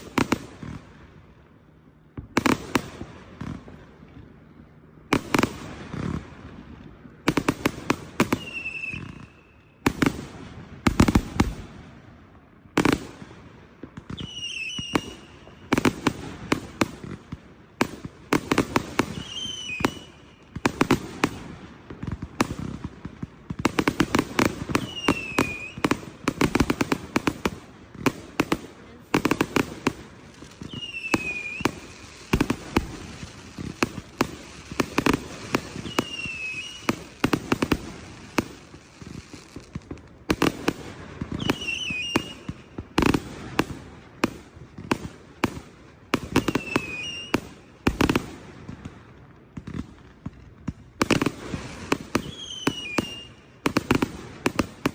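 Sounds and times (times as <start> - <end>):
fireworks bangs and crackling: 0.0 - 54.9
deep fireworks booms: 2.0 - 54.9.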